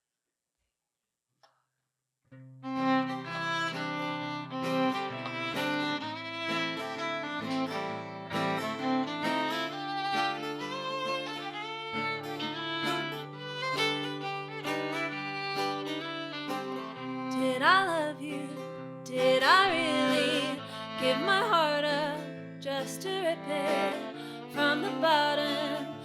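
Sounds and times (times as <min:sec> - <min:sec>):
fiddle and guitar folk tune: 0:02.5 - 0:26.0.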